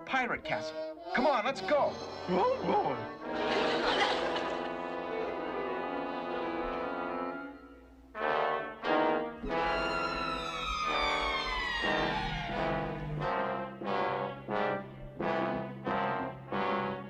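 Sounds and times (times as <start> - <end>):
cartoon brass music: 0.6 - 17.0.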